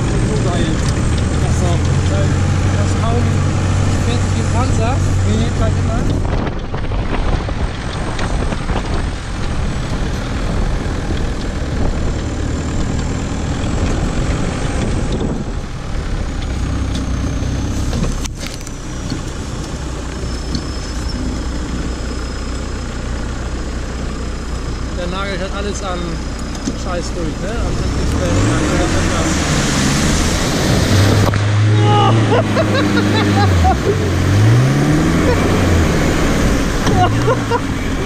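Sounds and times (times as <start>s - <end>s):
buggy engine running: 0.0s - 38.0s.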